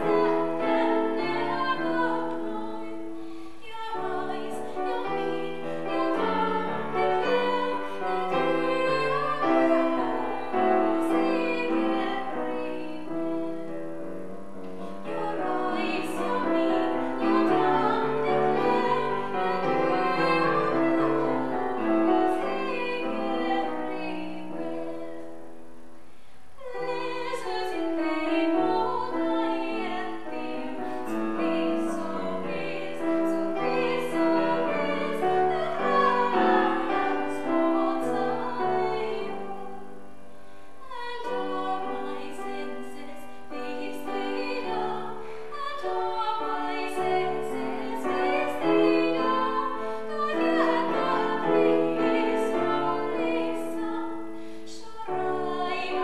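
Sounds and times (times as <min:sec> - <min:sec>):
woman singing art song: 0:00.0 - 0:13.7, 0:14.9 - 0:25.4, 0:26.6 - 0:56.0
grand piano accompaniment: 0:00.0 - 0:56.0.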